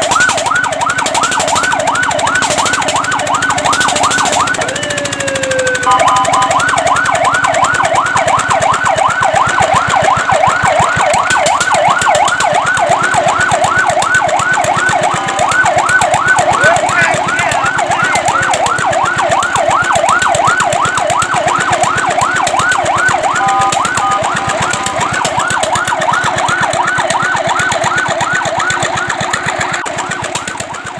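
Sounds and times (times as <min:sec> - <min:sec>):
fire truck siren yelping: 0:00.0 - 0:30.9
steady siren tone: 0:00.0 - 0:30.9.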